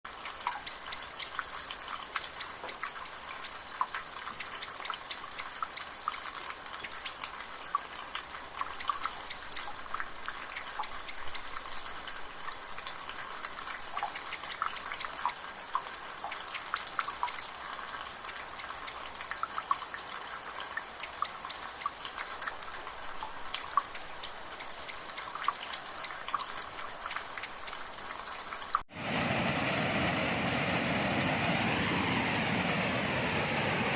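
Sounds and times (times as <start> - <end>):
water trickling and dripping: 0.1 - 28.9.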